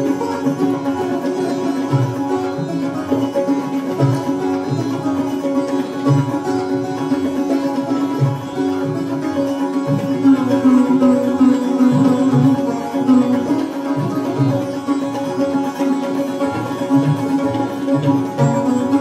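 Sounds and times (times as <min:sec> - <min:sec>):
sitar melody: 0:00.0 - 0:19.0
tabla: 0:00.0 - 0:19.0.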